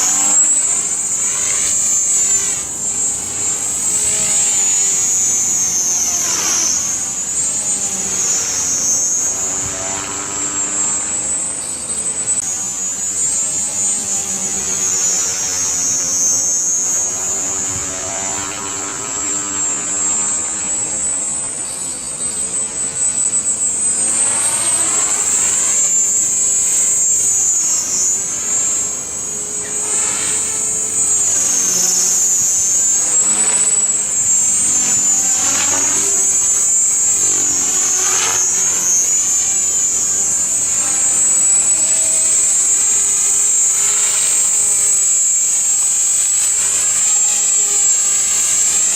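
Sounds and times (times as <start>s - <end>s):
rc helicopter whine and rotors: 0.0s - 48.9s.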